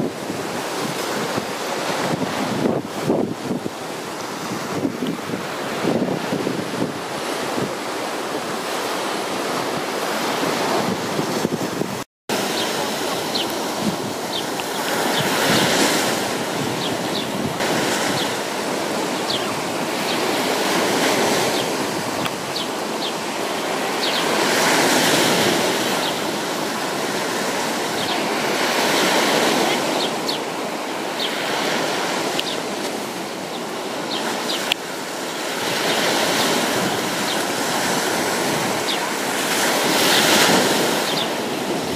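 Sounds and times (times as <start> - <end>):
waves breaking on beach: 0.0 - 41.9.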